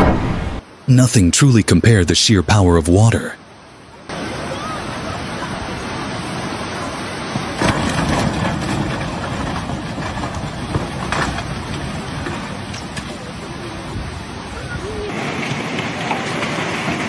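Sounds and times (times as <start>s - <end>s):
rushing water roar: 0.0s - 17.0s.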